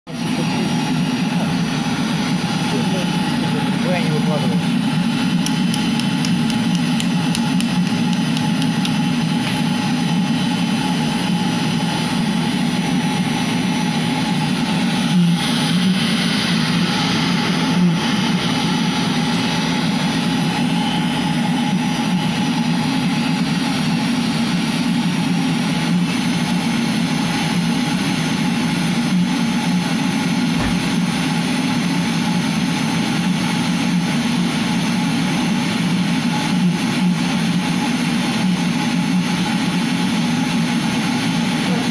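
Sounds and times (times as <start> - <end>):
heater fan and burner hum: 0.1 - 41.9.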